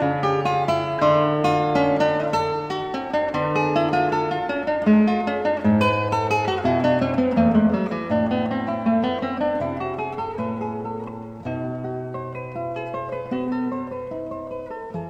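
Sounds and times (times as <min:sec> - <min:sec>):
acoustic guitar plucked notes: 0:00.0 - 0:15.0.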